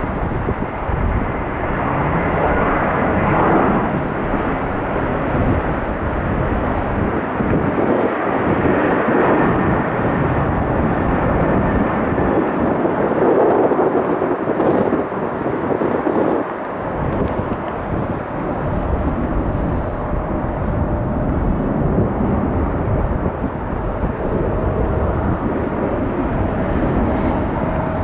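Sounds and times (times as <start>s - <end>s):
jet engines roaring: 0.0s - 28.0s
wind gusting on microphone: 0.0s - 28.0s.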